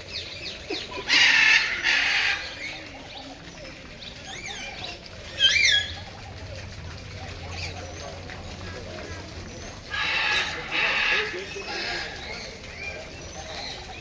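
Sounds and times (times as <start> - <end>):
birds squawking: 0.1 - 3.2, 4.2 - 6.2, 7.5 - 14.0.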